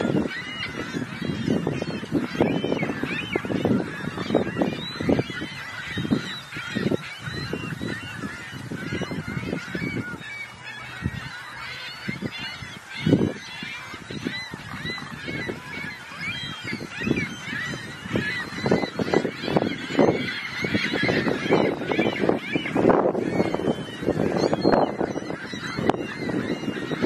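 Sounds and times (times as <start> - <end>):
gulls calling: 0.0 - 27.0.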